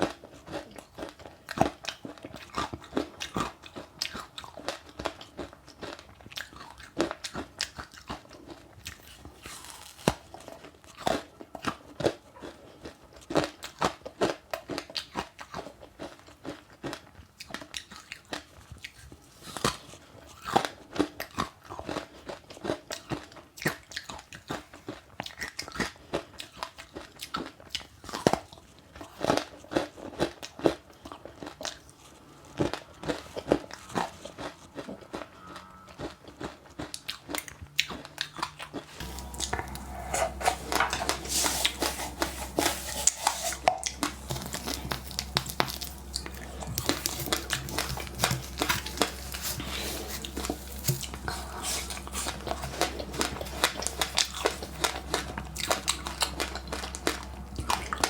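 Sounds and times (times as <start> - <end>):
chewing crunchy seeds: 0.0 - 58.0.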